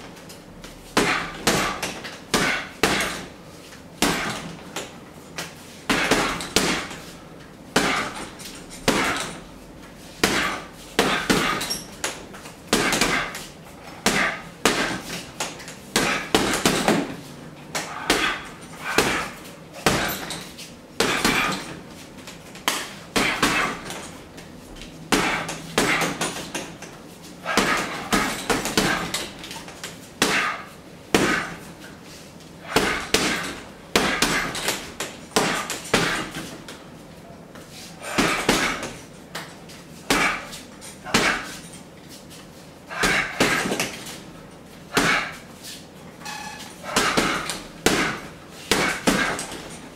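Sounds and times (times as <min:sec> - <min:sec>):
gloves punching heavy bag: 0:00.8 - 0:03.4, 0:04.0 - 0:31.9, 0:32.6 - 0:36.9, 0:38.0 - 0:41.8, 0:42.9 - 0:45.5, 0:46.4 - 0:49.9.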